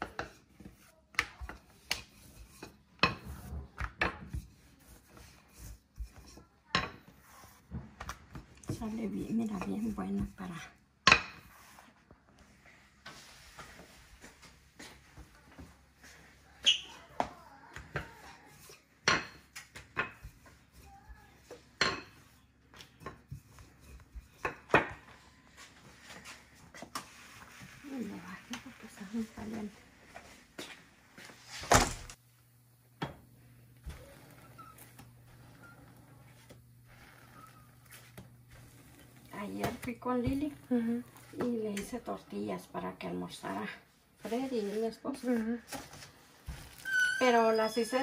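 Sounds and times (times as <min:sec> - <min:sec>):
rolling pin rolling dough: 0:00.0 - 0:31.7, 0:33.0 - 0:48.0.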